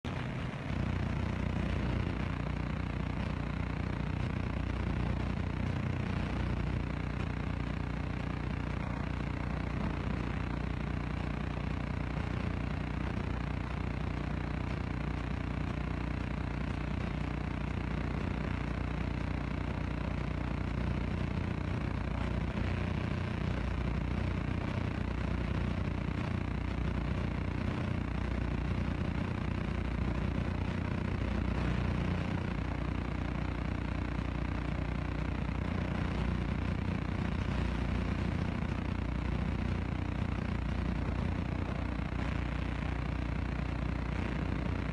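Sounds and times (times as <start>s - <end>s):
engine idling: 0.1s - 44.9s.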